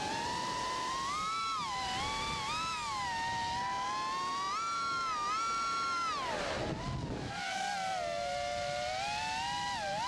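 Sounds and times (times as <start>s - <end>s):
drone propellers whining: 0.0s - 10.0s.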